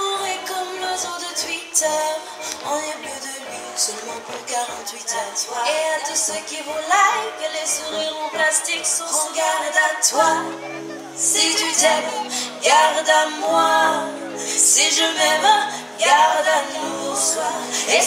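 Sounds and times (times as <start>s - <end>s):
woman singing: 0.0s - 18.0s.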